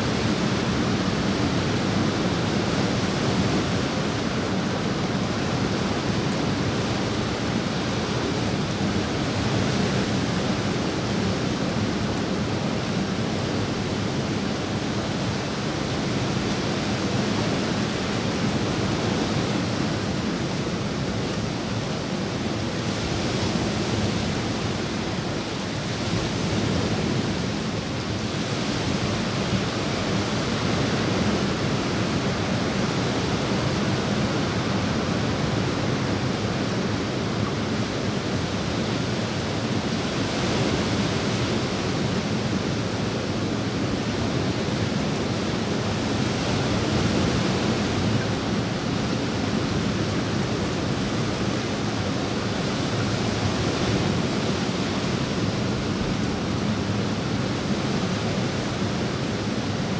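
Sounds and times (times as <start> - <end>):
rain falling on water and leaves: 0.0 - 59.9.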